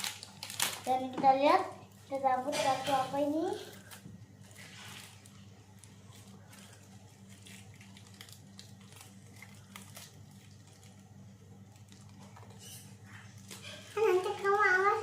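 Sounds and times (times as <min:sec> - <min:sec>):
plastic wrapper crinkling and tearing: 0:00.0 - 0:15.0
steady low hum: 0:00.0 - 0:15.0.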